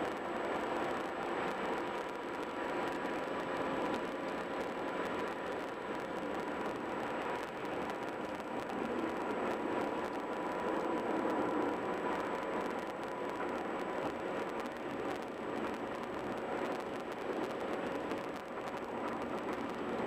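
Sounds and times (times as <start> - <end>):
tyre and wind road noise: 0.0 - 20.0.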